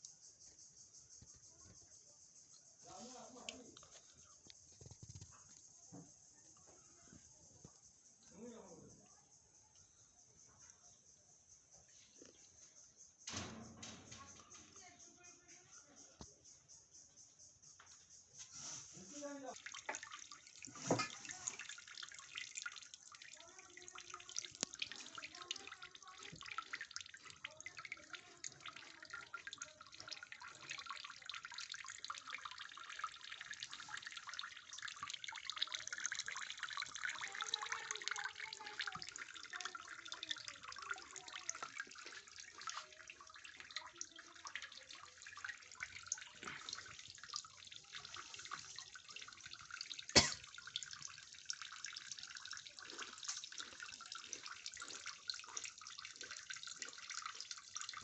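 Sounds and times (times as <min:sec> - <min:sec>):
water dripping: 0:00.0 - 0:58.0.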